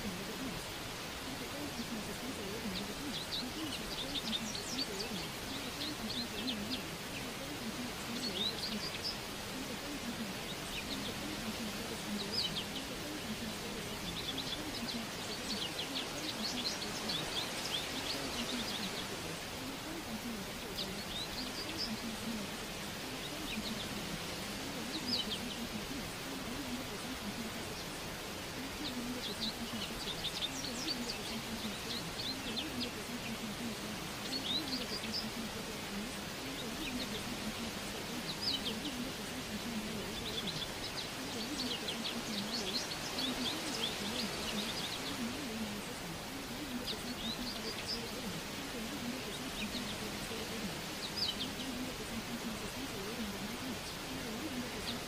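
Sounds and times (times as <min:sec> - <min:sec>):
background hiss: 0:00.0 - 0:55.0
birds chirping: 0:00.0 - 0:55.0
low indistinct murmur: 0:00.0 - 0:55.0.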